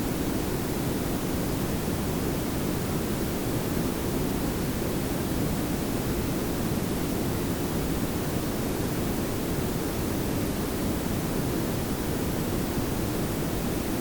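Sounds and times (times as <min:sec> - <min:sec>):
pink and brown noise: 0:00.0 - 0:14.0.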